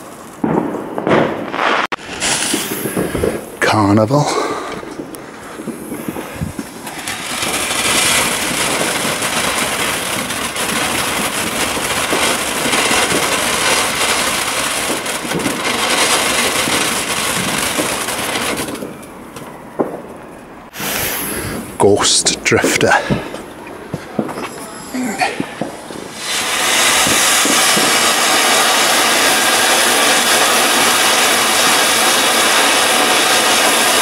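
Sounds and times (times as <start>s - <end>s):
firework fountain hissing: 0.0s - 19.4s, 20.7s - 34.0s.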